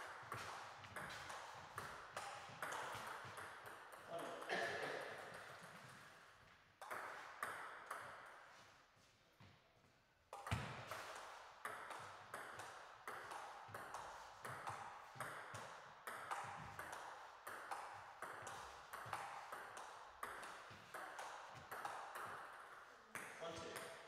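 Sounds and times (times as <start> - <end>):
table tennis ball hitting bats: 0.0 - 6.1, 6.8 - 8.4, 10.3 - 24.0
ball bouncing on table: 0.3 - 5.7, 6.8 - 8.3, 10.4 - 24.0.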